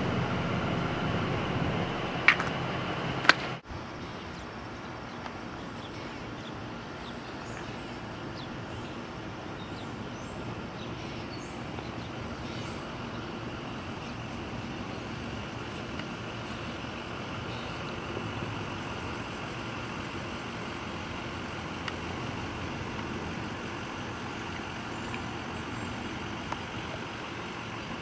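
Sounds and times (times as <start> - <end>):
street noise: 0.0 - 28.0.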